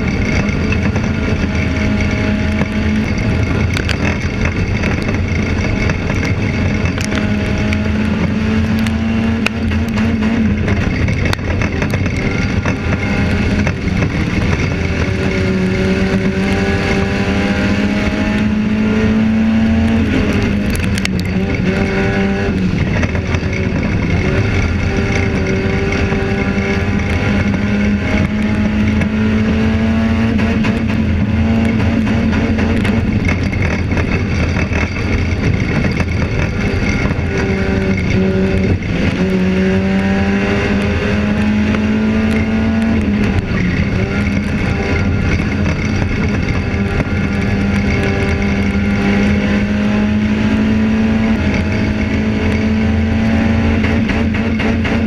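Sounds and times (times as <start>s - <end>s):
race car engine accelerating: 0.0s - 55.0s
steady rushing noise: 0.0s - 55.0s.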